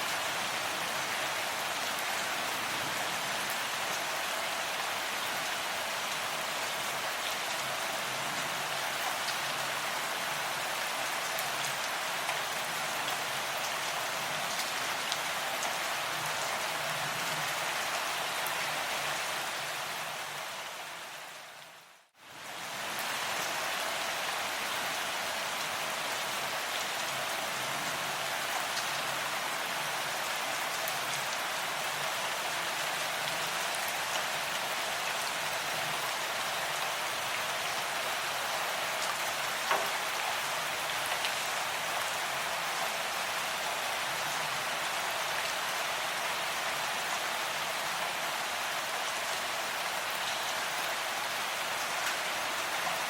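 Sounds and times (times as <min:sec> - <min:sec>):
steady rain patter: 0:00.0 - 0:53.0.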